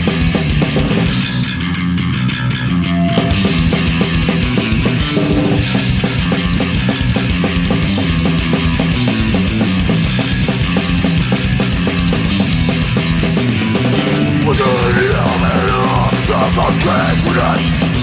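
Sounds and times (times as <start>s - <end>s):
fast drum kit beat: 0.0s - 1.6s, 3.3s - 18.0s
bass guitar: 0.0s - 18.0s
distorted electric guitar: 0.0s - 18.0s.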